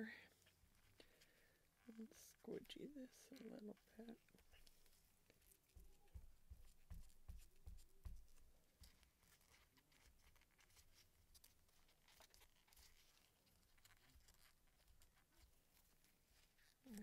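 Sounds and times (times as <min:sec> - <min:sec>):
gloved hands rubbing and crinkling: 0:00.1 - 0:17.0.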